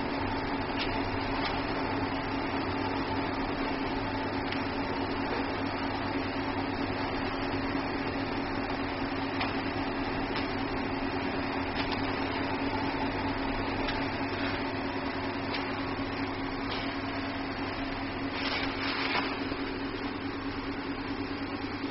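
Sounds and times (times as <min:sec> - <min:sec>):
stove fan hum: 0:00.0 - 0:21.9.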